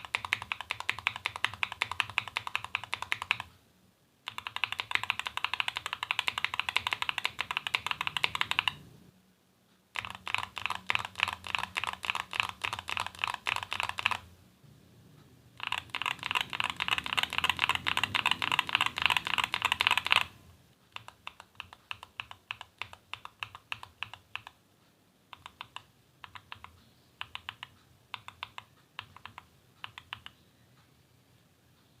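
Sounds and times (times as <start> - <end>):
mechanical keyboard typing: 0.0 - 3.5, 4.3 - 8.9, 9.9 - 14.3, 15.6 - 24.6, 25.3 - 30.4.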